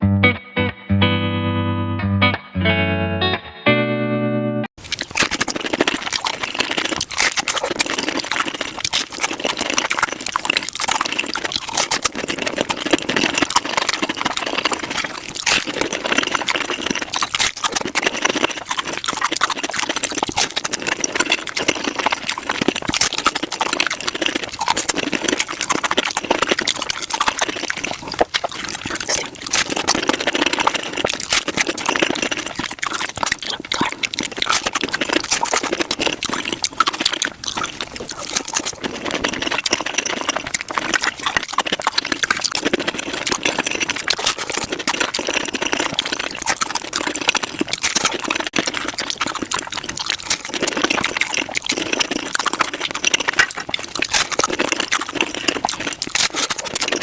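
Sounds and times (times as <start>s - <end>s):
sped-up crunching and chewing: 4.8s - 57.0s.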